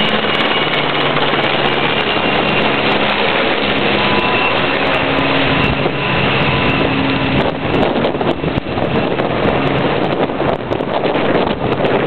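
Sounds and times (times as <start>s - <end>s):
helicopter engine and rotor: 0.0s - 12.0s
wind buffeting microphone: 0.0s - 12.0s.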